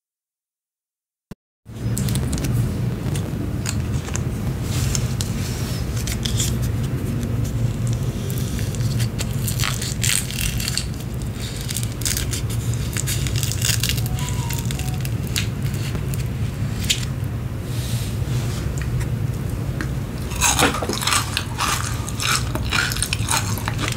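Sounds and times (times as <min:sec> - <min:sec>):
steady low hum: 0:01.7 - 0:23.9.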